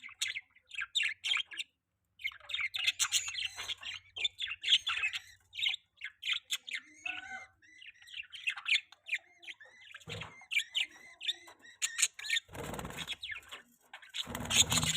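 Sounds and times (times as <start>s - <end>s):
budgerigar chirping: 0.0s - 13.4s.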